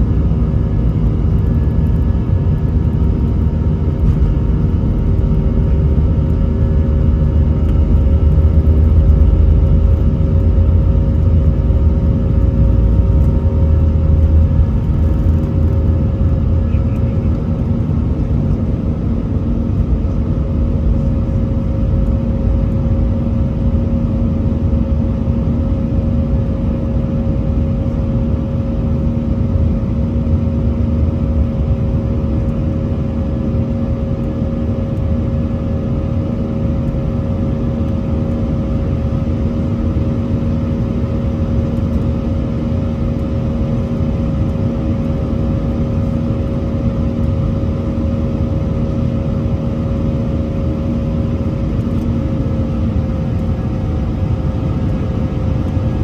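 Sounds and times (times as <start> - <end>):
jet engines heard from cabin: 0.0 - 56.0.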